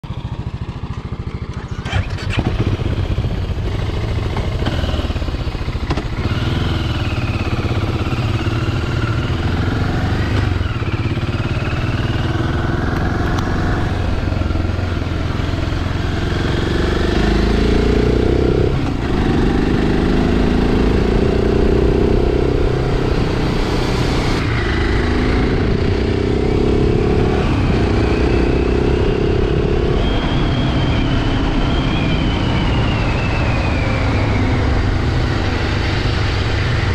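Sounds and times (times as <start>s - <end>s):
motorcycle engine shifting gears: 0.1s - 31.7s.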